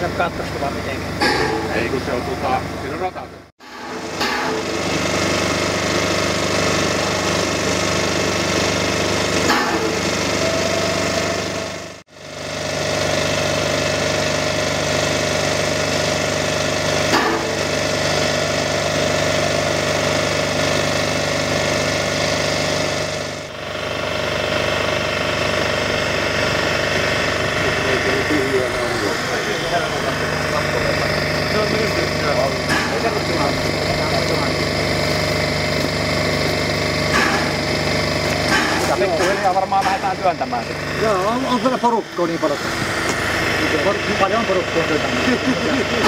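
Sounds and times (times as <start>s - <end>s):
steam locomotive hissing and chuffing: 3.6s - 46.0s.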